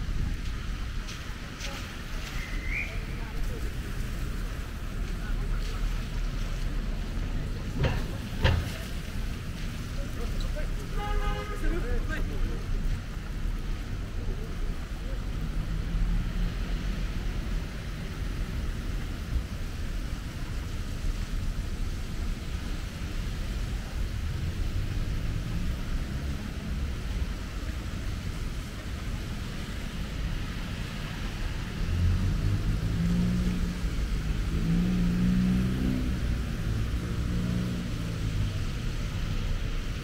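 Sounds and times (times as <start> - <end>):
tyres hissing on wet pavement: 0.0 - 40.0
vehicle engine hum: 0.0 - 40.0.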